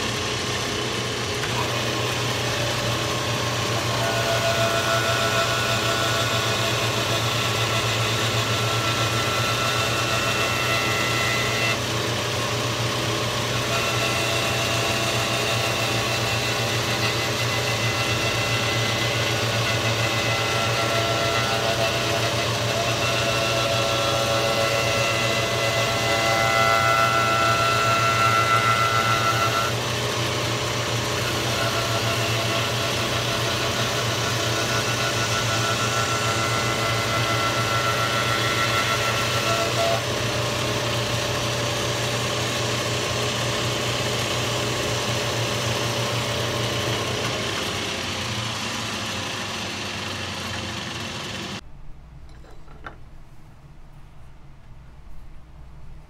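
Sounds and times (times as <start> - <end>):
electric motor hum and whine: 0.0 - 51.6.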